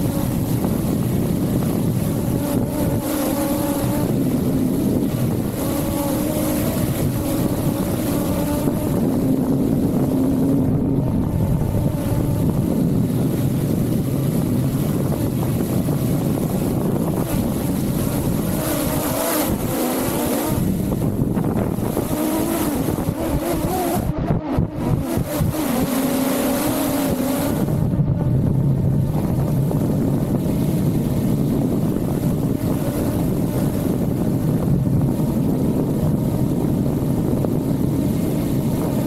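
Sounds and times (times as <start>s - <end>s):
drone motors humming: 0.0s - 39.0s
wind noise on microphone: 0.0s - 39.0s.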